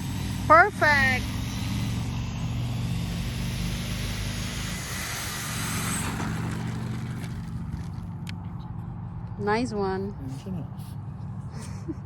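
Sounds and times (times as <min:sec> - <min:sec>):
model plane motor and propeller: 0:00.0 - 0:10.2.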